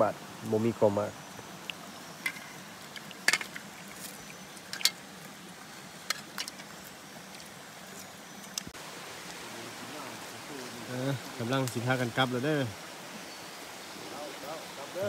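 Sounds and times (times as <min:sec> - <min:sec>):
stream rushing: 0:00.0 - 0:15.0.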